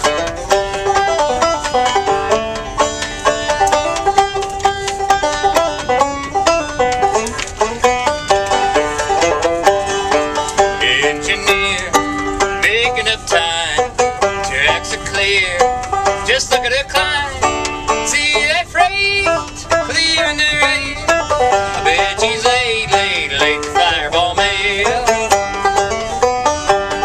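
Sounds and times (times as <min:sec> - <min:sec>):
banjo picking: 0:00.0 - 0:27.0.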